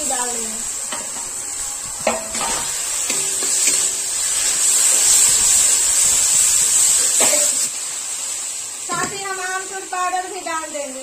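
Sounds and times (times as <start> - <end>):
spice paste sizzling in hot oil: 0.0 - 11.0.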